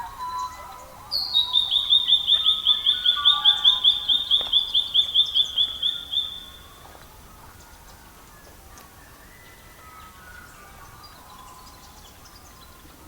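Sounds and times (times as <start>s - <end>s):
songbird singing a fast trill: 0.0s - 6.8s, 9.0s - 13.0s.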